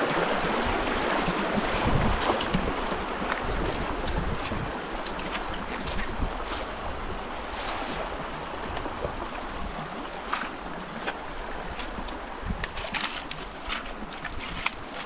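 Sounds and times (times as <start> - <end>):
moving water: 0.0 - 15.0
wind on microphone: 0.0 - 15.0.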